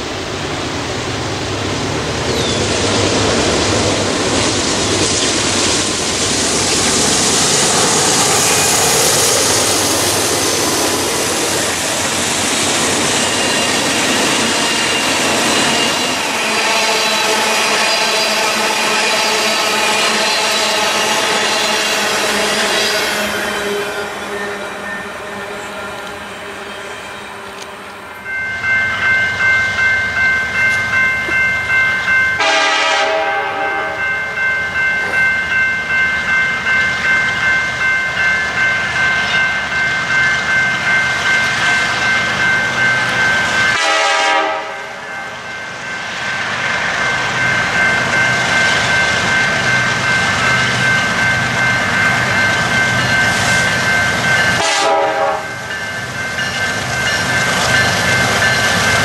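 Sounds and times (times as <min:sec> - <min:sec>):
diesel train rumble: 0:00.0 - 0:59.0
railroad crossing bell ringing: 0:05.4 - 0:59.0.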